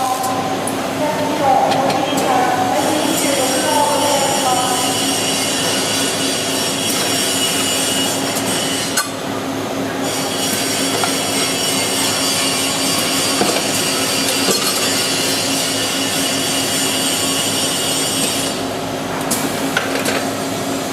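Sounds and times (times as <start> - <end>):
machine humming: 0.0 - 20.9.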